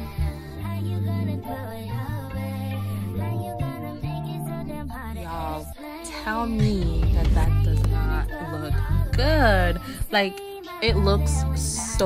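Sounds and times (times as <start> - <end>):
background music with bass notes: 0.0 - 12.0.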